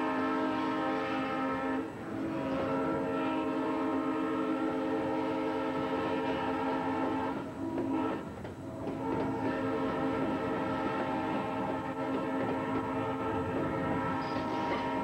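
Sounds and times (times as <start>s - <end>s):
locomotive horn blast: 0.0s - 15.0s.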